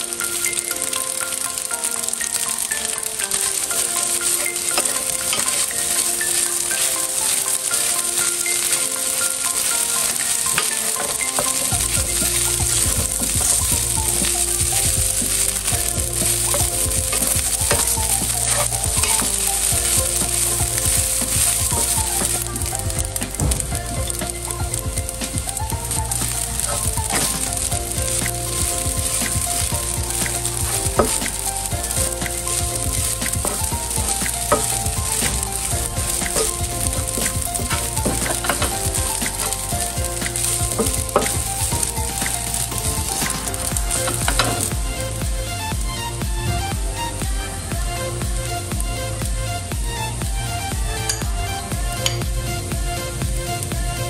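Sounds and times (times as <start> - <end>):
rice sizzling in frying pan: 0.0 - 54.0
soft background music: 0.0 - 54.0.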